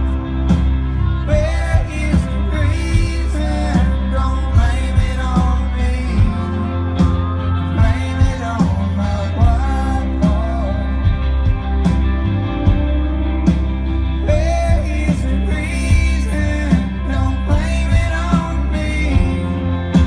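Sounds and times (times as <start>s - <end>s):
person singing: 0.0s - 11.8s, 14.2s - 20.0s
bass line: 0.0s - 20.0s.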